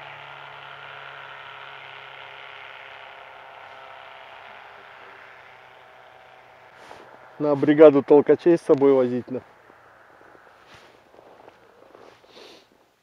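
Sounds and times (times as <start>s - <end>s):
distant hovercraft engine droning: 0.0s - 12.8s.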